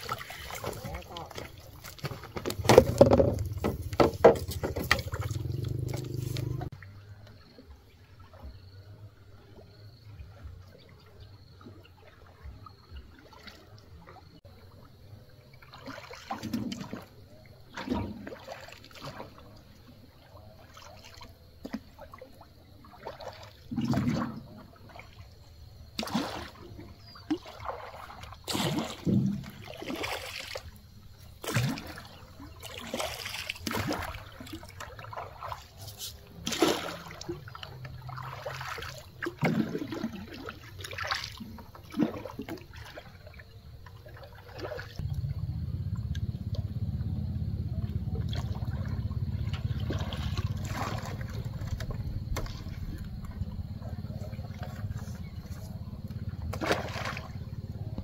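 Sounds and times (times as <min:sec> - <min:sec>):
water trickling: 0:00.0 - 0:08.8, 0:10.6 - 0:58.0
water sloshing and splashing: 0:00.0 - 0:58.0.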